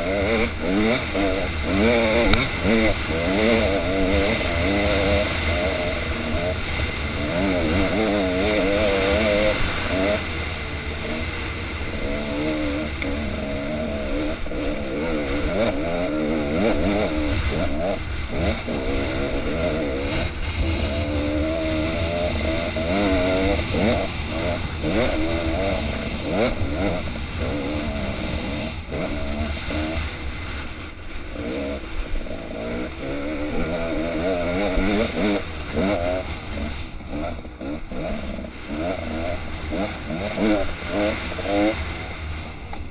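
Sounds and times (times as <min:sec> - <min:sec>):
dirt bike engine revving: 0:00.0 - 0:42.9
steady rushing noise: 0:00.0 - 0:42.9.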